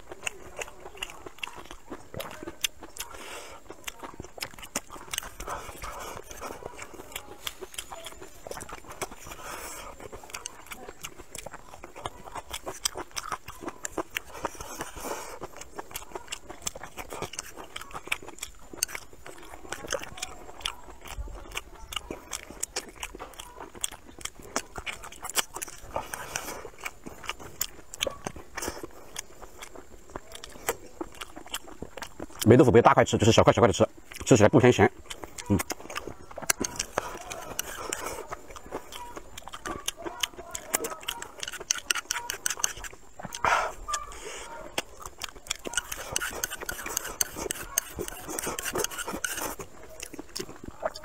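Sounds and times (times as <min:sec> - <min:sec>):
man chewing food: 0:00.0 - 0:51.0.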